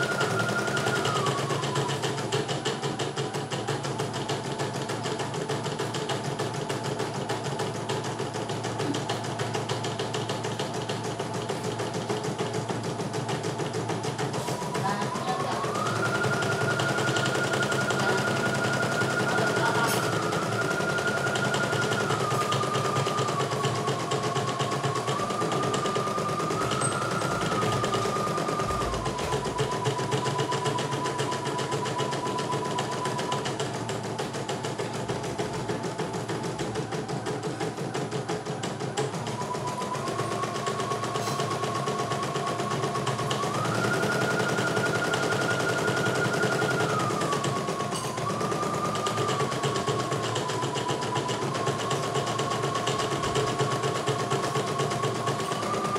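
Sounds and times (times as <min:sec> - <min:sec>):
motor whine: 0:00.0 - 0:55.9.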